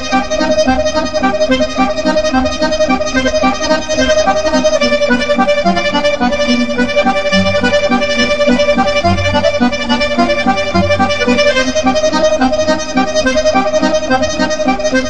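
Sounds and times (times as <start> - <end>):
accordion bass notes: 0.0 - 15.0
accordion melody: 0.0 - 15.0.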